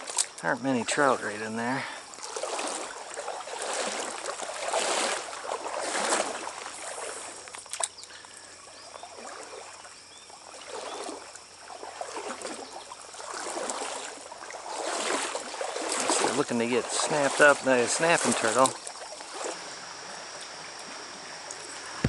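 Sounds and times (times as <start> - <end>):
stream water splashing: 0.0 - 22.0.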